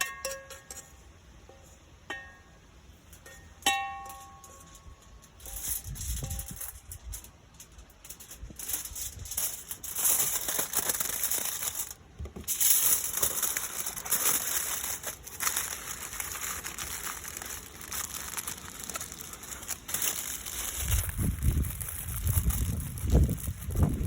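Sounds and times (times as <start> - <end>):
campfire crackles: 4.1 - 24.0.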